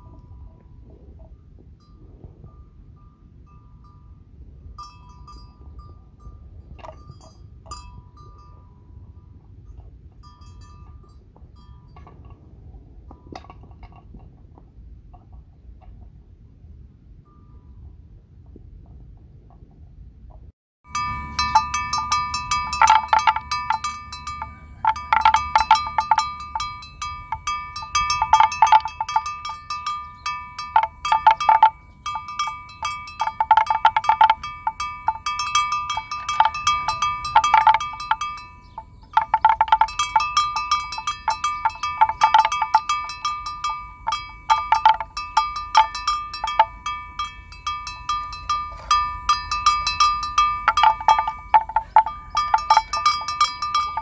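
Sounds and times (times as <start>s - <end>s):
metal bells clanking: 0.0s - 14.2s, 20.9s - 54.0s.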